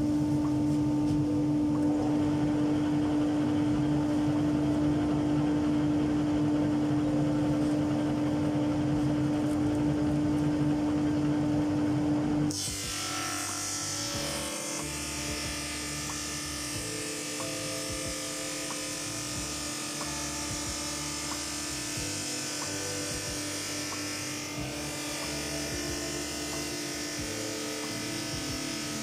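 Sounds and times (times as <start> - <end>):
background music: 0.0 - 29.0
drum sander humming: 0.0 - 29.0.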